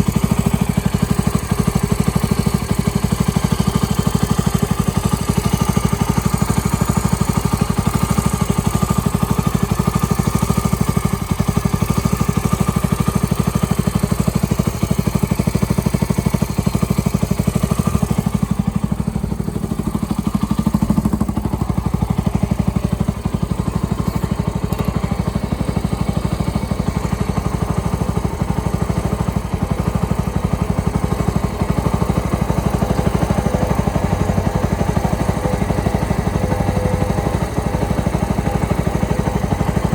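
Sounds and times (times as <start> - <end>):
four-stroke engine idling: 0.0 - 39.9.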